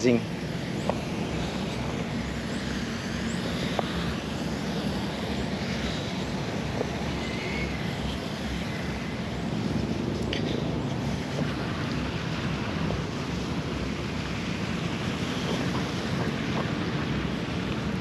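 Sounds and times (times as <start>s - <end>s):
distant road traffic rumble: 0.0s - 18.0s.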